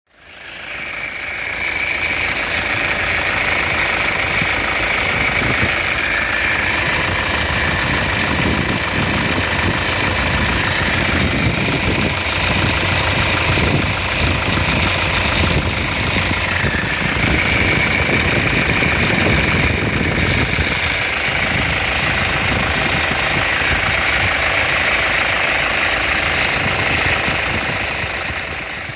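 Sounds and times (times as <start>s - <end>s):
diesel engine idling: 0.1s - 28.9s.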